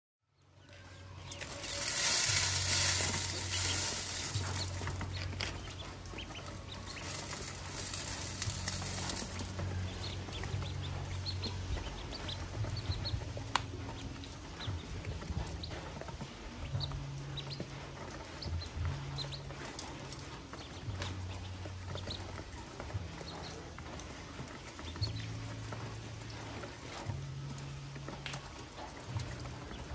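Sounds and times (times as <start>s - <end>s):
ducklings peeping: 0.4s - 29.9s.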